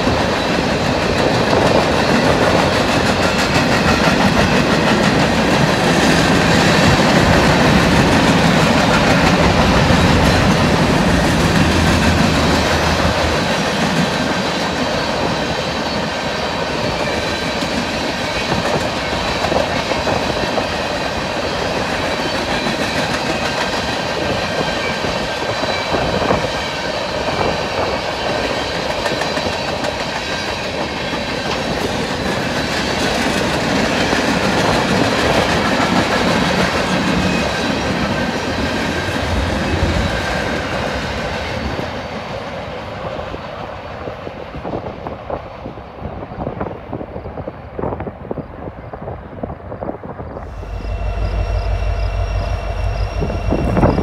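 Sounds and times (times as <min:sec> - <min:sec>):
freight train wheels clattering: 0:00.0 - 0:43.3.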